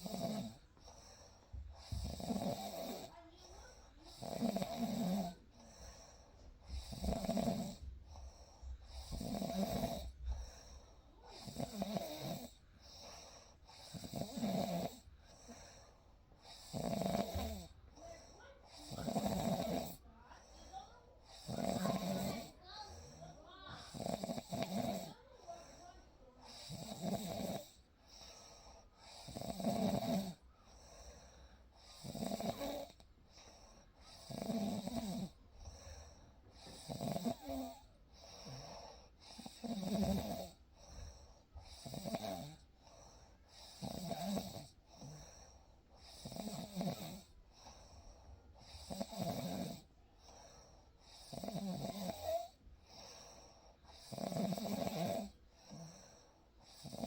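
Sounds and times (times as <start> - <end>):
person snoring: 0.0 - 0.6, 1.8 - 3.4, 4.0 - 6.0, 6.7 - 7.9, 8.8 - 15.8, 16.4 - 20.0, 21.3 - 30.4, 31.8 - 33.0, 34.0 - 40.9, 41.6 - 42.7, 43.5 - 47.8, 48.6 - 49.9, 51.0 - 57.0.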